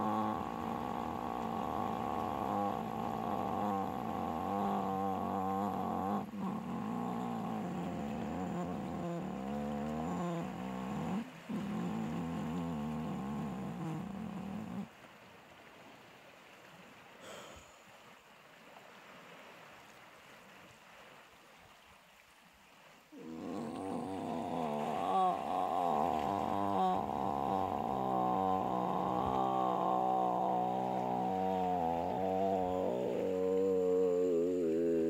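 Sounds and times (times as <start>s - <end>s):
faint sea wash: 0.0s - 35.0s.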